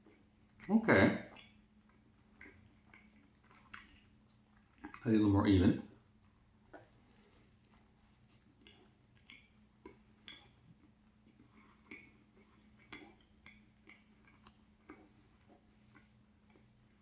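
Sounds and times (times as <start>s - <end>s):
mouth chewing wet clicks: 0.0s - 5.2s, 7.6s - 17.0s
low steady hum: 0.0s - 17.0s.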